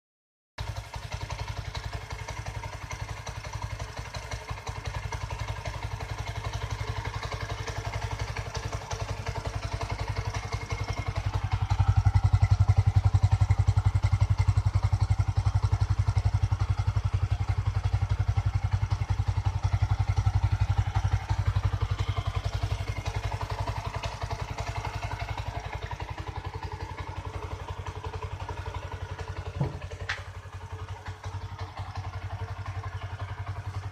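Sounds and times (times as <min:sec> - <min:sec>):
motorcycle engine idling: 0:00.6 - 0:33.9.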